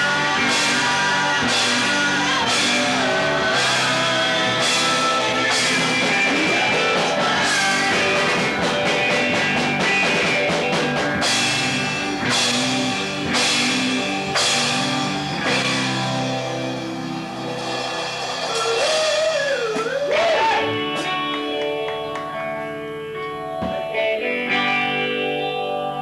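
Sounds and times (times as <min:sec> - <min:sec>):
drum kit: 0:00.0 - 0:25.0
electric guitar chords: 0:00.0 - 0:26.0.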